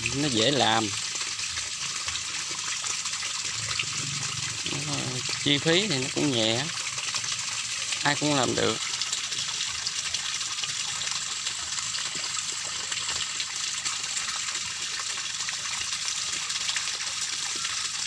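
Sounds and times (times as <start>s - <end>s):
water gushing into pond: 0.0s - 18.0s.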